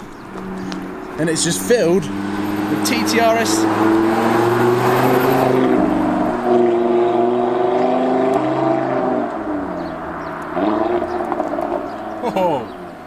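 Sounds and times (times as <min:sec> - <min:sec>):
car driving past and pulling away: 0:00.1 - 0:13.0.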